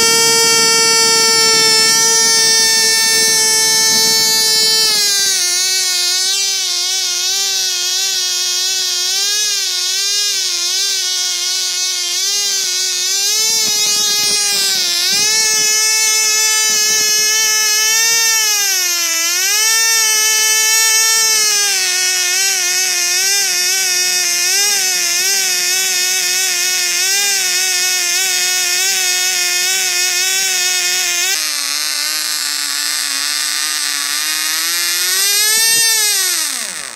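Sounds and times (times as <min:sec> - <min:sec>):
model engine high-pitched buzz: 0:00.0 - 0:36.9.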